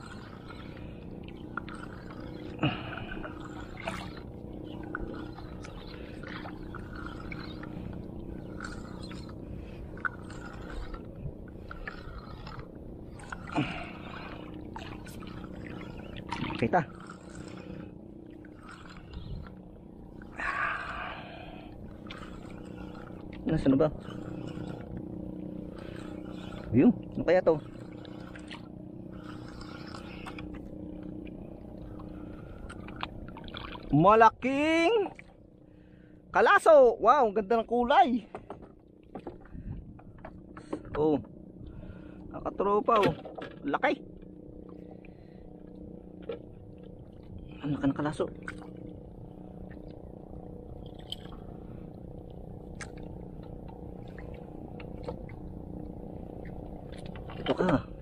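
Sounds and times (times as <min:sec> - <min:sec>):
low engine drone: 0:00.0 - 0:58.0
low mechanical hum: 0:00.0 - 0:58.0.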